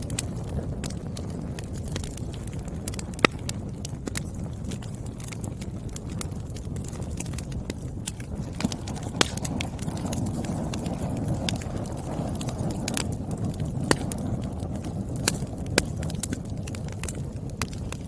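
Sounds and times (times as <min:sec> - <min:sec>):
firewood popping and crackling: 0:00.0 - 0:18.0
low rumble of flame: 0:00.0 - 0:18.0.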